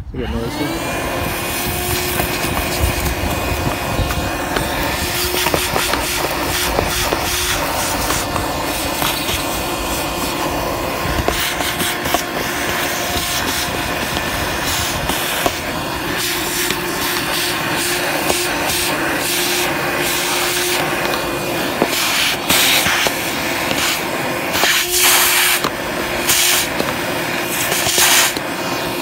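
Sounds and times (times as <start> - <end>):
cordless vacuum running: 0.0 - 29.0
debris rattling up vacuum hose: 0.8 - 29.0.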